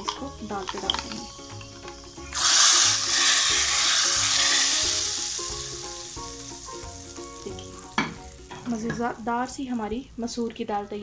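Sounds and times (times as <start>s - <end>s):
hot oil sizzling: 0.0s - 9.6s
background music: 0.0s - 11.0s.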